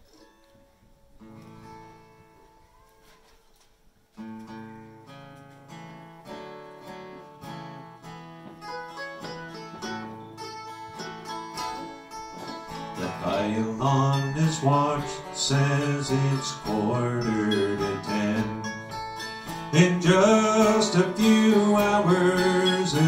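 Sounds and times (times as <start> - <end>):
acoustic guitar and plucked strings: 0.0 - 3.4, 4.1 - 23.0.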